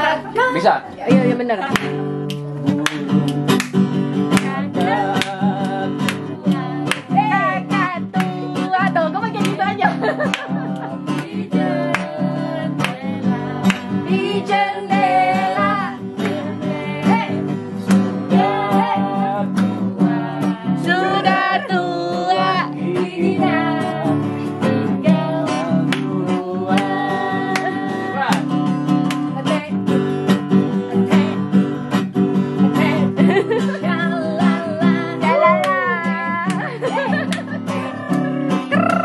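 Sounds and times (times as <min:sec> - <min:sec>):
acoustic guitar: 0:00.0 - 0:39.0
person singing: 0:04.3 - 0:28.5, 0:29.3 - 0:29.9, 0:30.7 - 0:31.8, 0:32.6 - 0:39.0.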